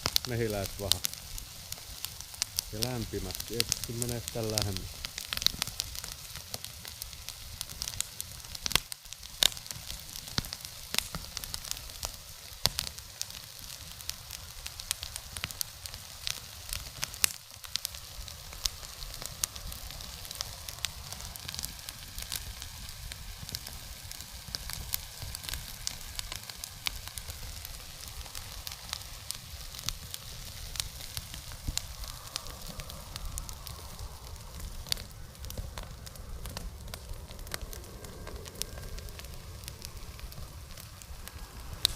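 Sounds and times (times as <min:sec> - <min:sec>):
burning wax sizzling: 0:00.0 - 0:41.9
fire crackling and popping: 0:00.0 - 0:41.9.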